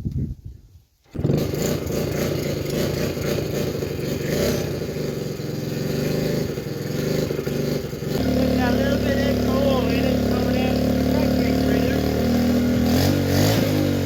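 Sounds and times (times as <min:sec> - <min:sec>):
small motorcycle engine running: 0:01.1 - 0:14.0.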